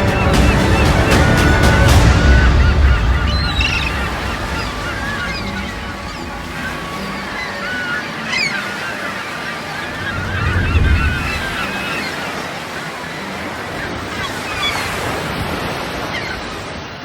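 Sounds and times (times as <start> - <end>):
wind buffeting microphone: 0.0 - 16.2
sea surf washing: 0.0 - 17.0
seabirds calling: 0.0 - 17.0.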